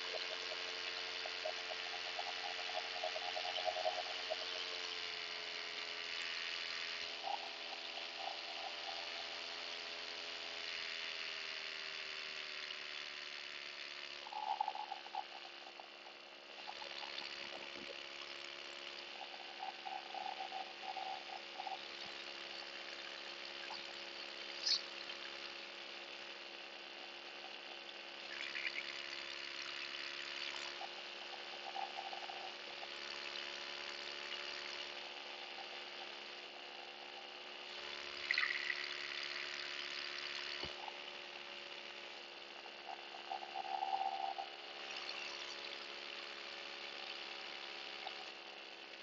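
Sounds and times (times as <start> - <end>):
paramotor engine droning: 0.0 - 49.0.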